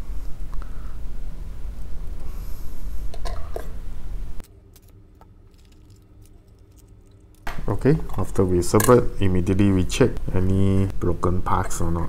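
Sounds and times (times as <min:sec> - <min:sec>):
faint room hum: 0:00.0 - 0:12.0
steady low hum: 0:00.0 - 0:12.0.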